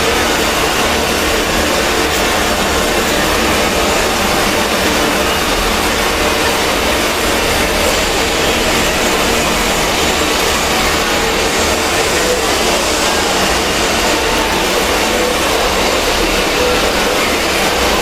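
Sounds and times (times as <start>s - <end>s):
distorted bass-boosted noise: 0.0s - 18.0s.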